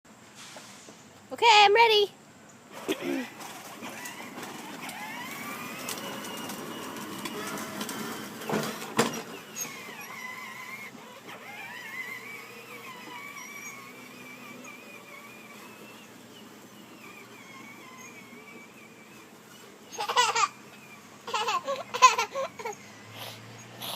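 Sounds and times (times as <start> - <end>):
toy truck electric motor whine: 2.7 - 23.9.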